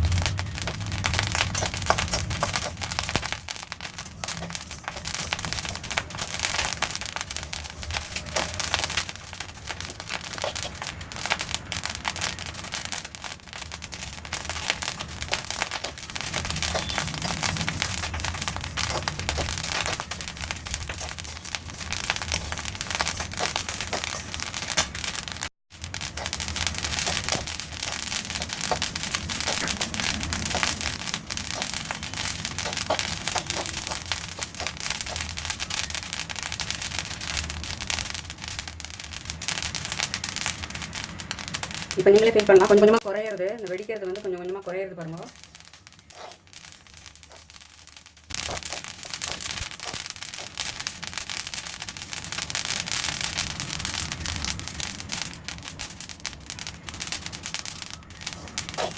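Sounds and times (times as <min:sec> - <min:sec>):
seeds popping in a hot pan: 0:00.0 - 0:58.9.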